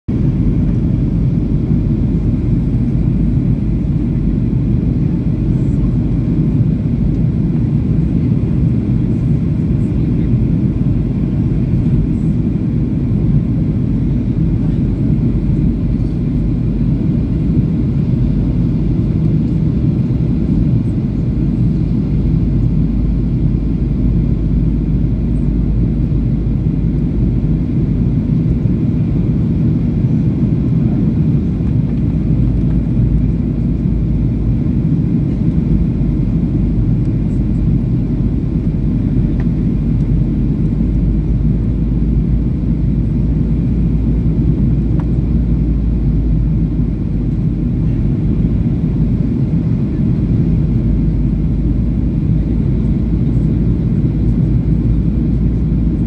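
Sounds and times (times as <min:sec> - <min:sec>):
jet engines rumbling: 0:00.1 - 0:56.0.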